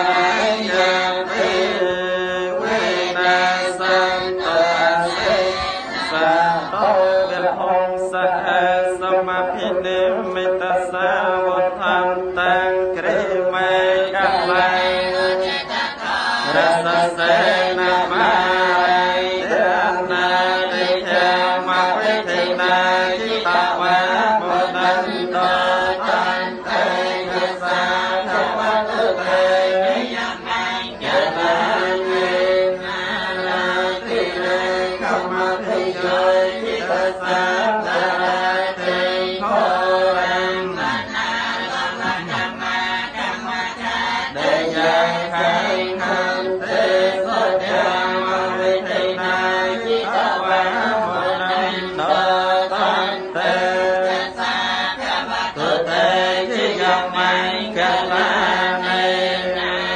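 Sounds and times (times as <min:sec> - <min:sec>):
voices chanting a prayer: 0:00.0 - 0:59.9.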